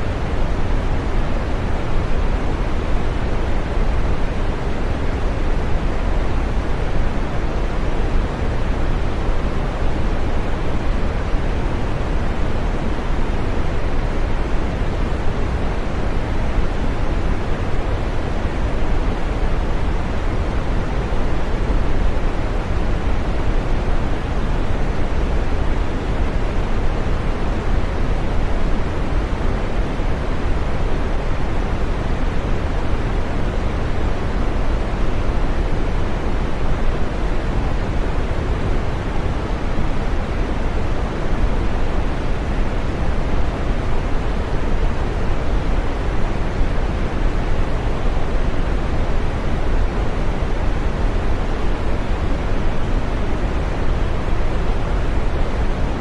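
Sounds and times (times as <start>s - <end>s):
green noise steady rush: 0.0s - 56.0s.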